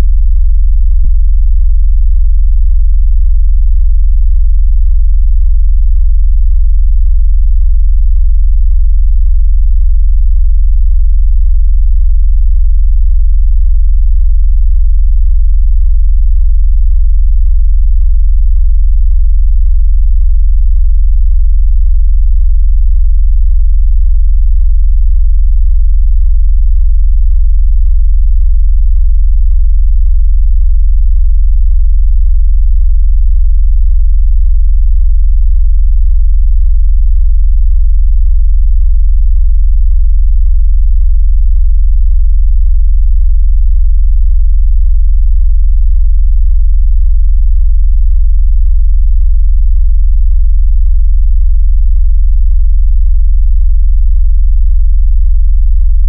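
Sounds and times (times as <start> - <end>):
deep pulsing sine bass tone: 0.0 - 56.0.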